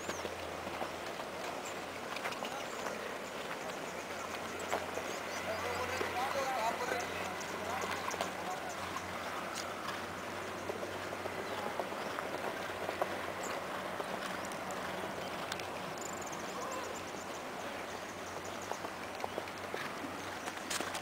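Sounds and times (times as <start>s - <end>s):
hoofbeats on sand: 0.0s - 21.0s.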